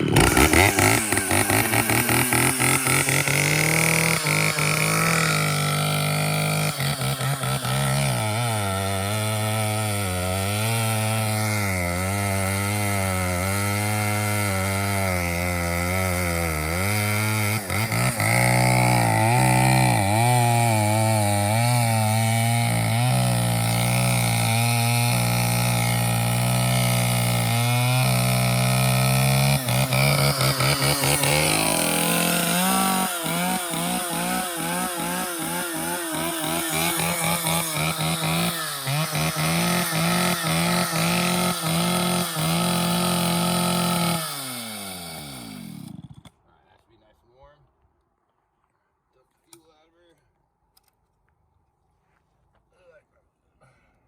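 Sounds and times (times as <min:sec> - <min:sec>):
chainsaw running at high throttle: 0:00.0 - 0:46.3.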